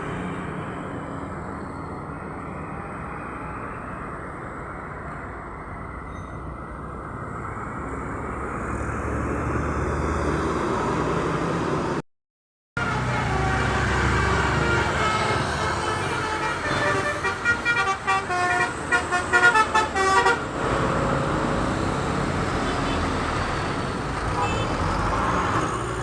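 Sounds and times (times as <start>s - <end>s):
bus engine rumbling past: 0.0s - 12.0s, 12.8s - 26.0s
road traffic: 0.0s - 12.0s, 12.8s - 26.0s.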